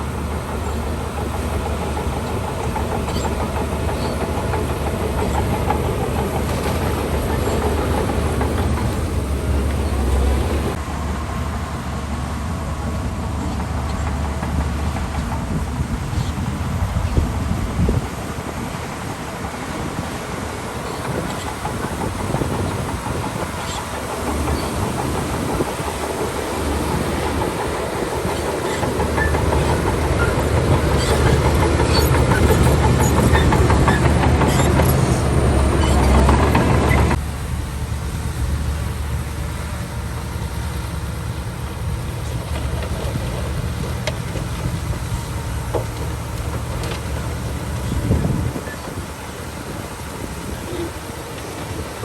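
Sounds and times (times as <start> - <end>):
bulldozer diesel engine under load: 0.0 - 52.0
steel tracks clanking: 0.0 - 52.0.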